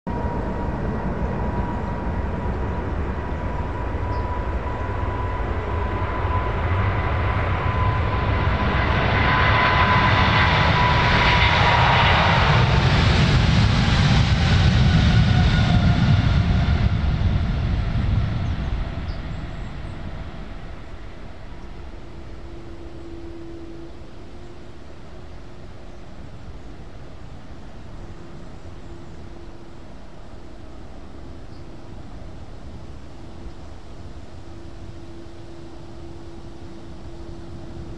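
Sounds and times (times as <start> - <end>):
jet engines at takeoff power: 0.1 - 37.9.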